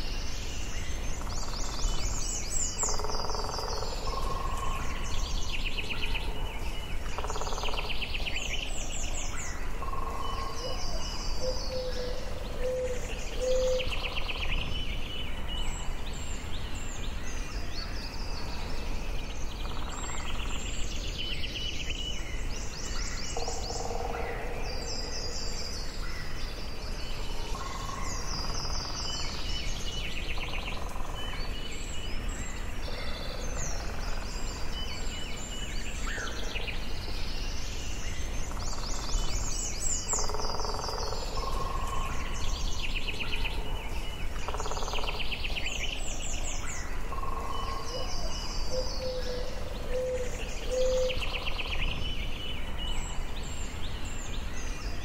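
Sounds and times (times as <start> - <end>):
low rush of wind: 0.0 - 55.0
songbirds singing and calling: 0.0 - 55.0.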